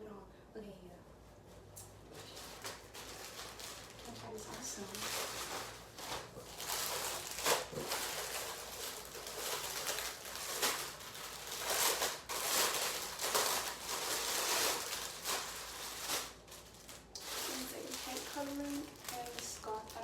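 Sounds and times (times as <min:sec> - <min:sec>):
plastic packaging crinkling: 0:02.1 - 0:20.0.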